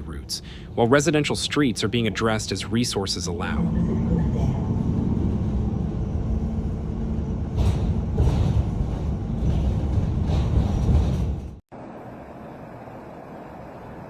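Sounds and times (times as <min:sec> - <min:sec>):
heavy vehicle rumbling: 0:00.0 - 0:12.0.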